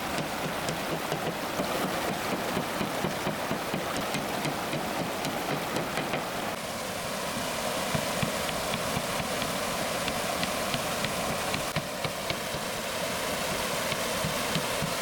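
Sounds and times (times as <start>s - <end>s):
flowing water rushing: 0.0s - 15.0s
water drips and splashes: 0.0s - 15.0s.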